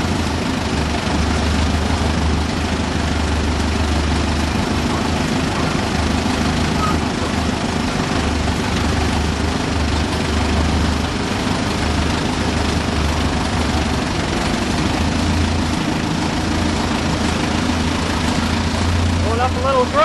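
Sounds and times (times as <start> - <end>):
locomotive engine running: 0.0 - 20.0.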